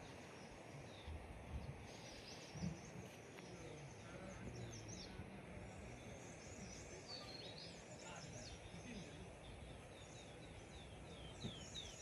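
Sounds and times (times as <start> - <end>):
low steady background noise: 0.0 - 12.0
small birds chirping: 0.0 - 12.0.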